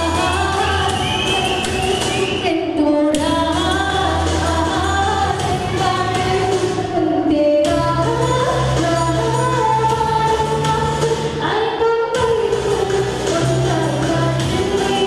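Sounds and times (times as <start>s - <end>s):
backing music with bass line: 0.0s - 15.0s
woman singing into microphone: 0.0s - 15.0s.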